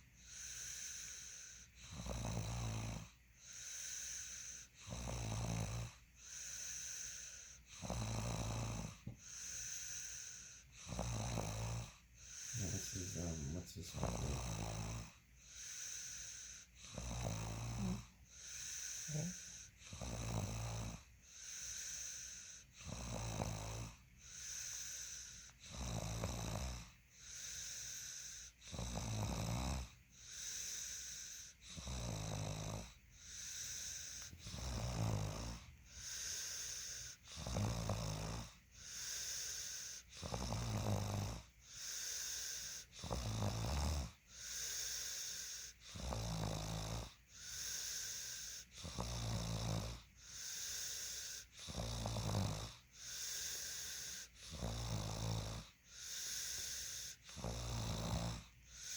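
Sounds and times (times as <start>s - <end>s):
person snoring: 0.0s - 58.9s.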